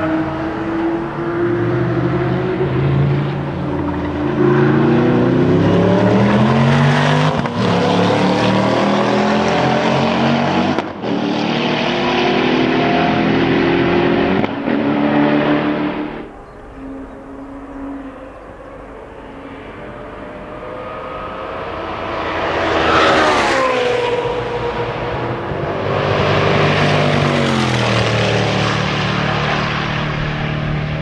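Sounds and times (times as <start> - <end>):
sports car engine passing by: 0.0 - 31.0.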